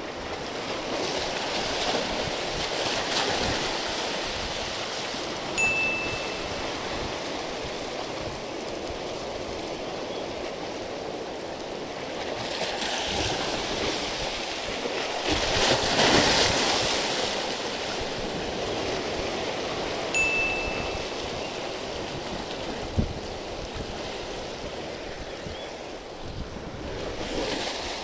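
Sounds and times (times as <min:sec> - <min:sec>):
surf washing against rocks: 0:00.0 - 0:28.0.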